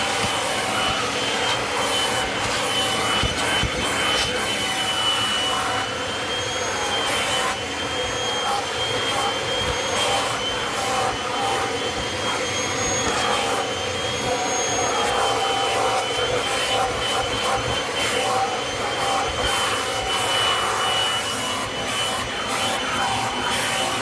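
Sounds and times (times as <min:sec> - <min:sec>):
vacuum cleaner motor whining: 0:00.0 - 0:24.0
vacuum hose scrubbing and sucking: 0:00.0 - 0:24.0.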